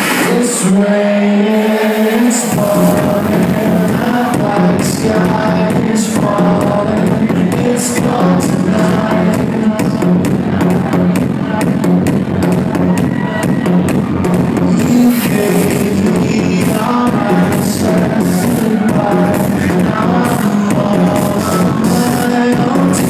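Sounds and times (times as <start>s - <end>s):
electronic dance music: 0.0s - 23.0s.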